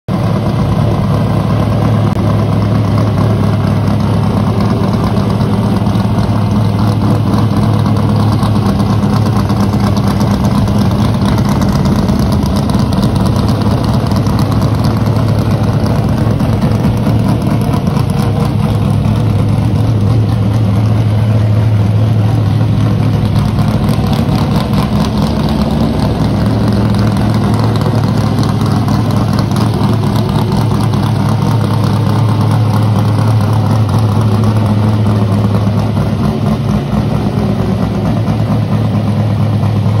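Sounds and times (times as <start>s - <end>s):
race car engine idling loudly: 0.1s - 40.0s.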